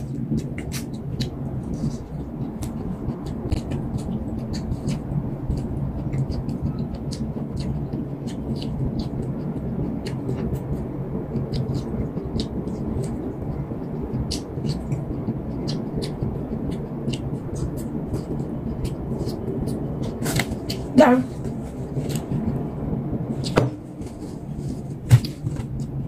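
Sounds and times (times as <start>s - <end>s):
chewing corn: 0.0s - 20.9s
low rumble: 0.0s - 26.0s.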